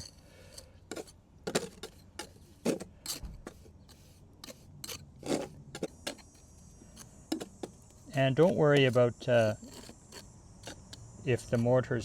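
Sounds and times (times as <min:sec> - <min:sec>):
mortar tool scraping stone: 0:00.0 - 0:12.0.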